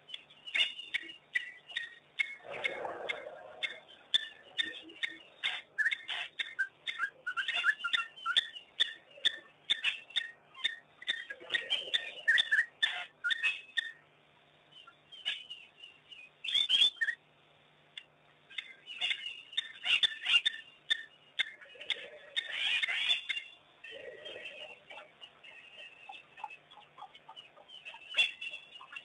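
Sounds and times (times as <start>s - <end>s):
wild dogs twittering: 0.5s - 14.0s, 18.6s - 29.0s.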